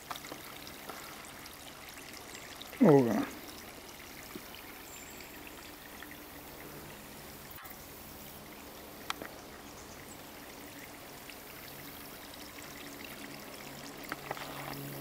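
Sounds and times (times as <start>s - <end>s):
water trickling over rock: 0.0s - 15.0s.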